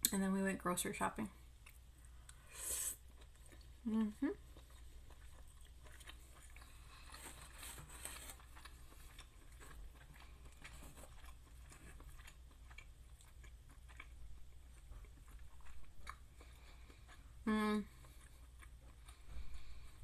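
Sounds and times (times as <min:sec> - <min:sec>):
person chewing noodles: 0:01.5 - 0:20.0.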